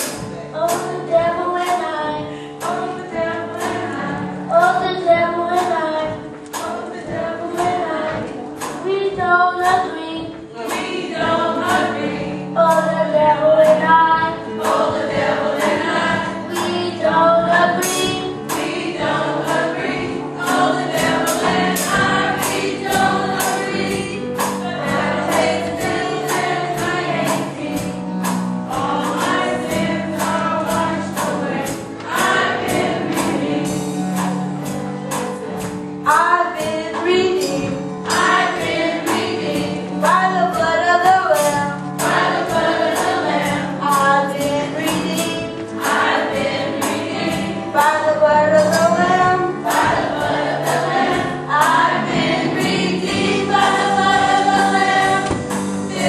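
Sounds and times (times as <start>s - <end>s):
children's choir singing: 0.0s - 56.0s
steady drum beat: 0.0s - 56.0s.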